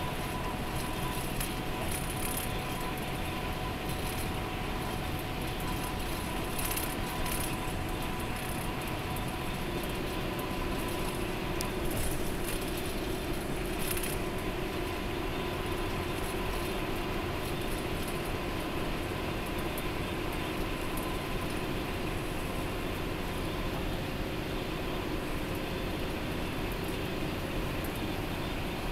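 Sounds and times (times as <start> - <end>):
coach engine drone: 0.0 - 28.9.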